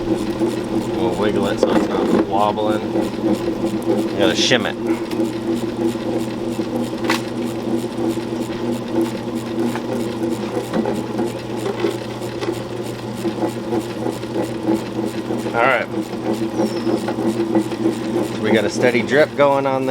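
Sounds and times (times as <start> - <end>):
grindstone motor hum: 0.0 - 19.9.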